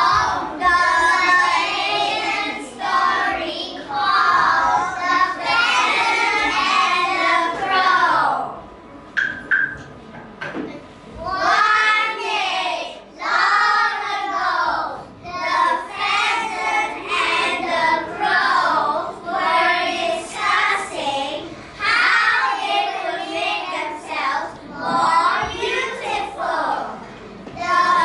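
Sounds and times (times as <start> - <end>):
children singing in unison: 0.0 - 8.4, 11.2 - 28.0.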